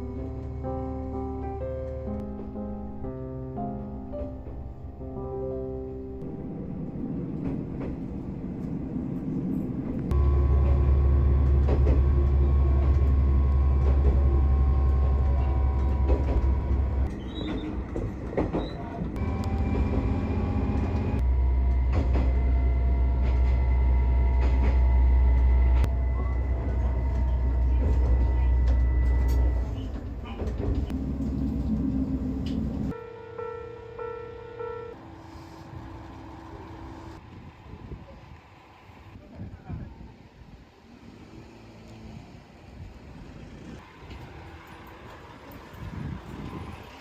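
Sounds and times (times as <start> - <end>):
diesel railcar engine drone: 0.0 - 47.0.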